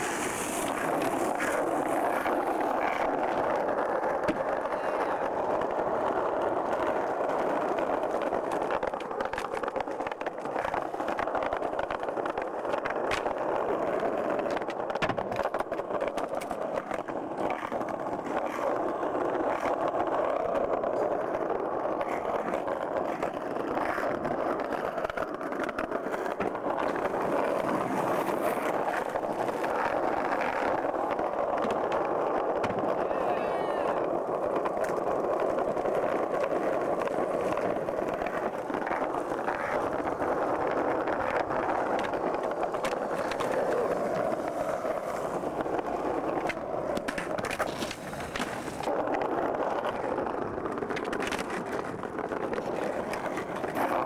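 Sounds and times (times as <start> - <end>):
skateboard clacks: 0.0 - 54.0
skateboard wheels rolling on concrete: 0.0 - 54.0.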